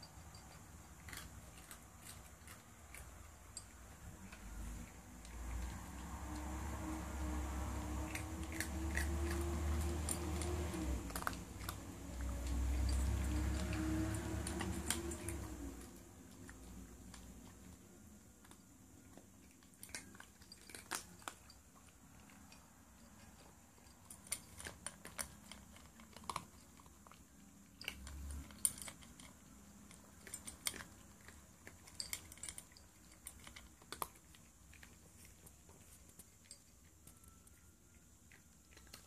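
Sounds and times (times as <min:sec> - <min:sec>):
cat crunching dry kibble: 0:00.0 - 0:37.1, 0:38.3 - 0:39.0.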